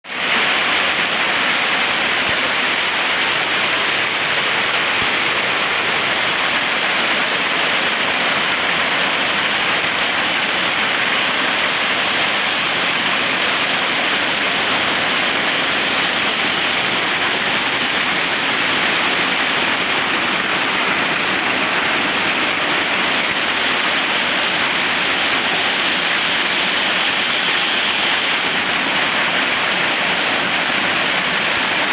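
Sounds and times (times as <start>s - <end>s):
hail and heavy rain: 0.0s - 31.9s.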